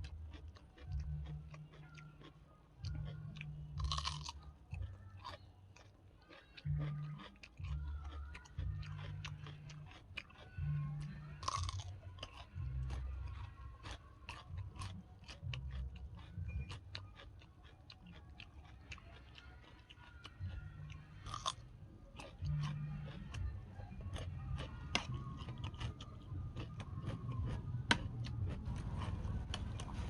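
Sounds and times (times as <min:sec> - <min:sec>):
person chewing and crunching food: 0:00.0 - 0:30.0.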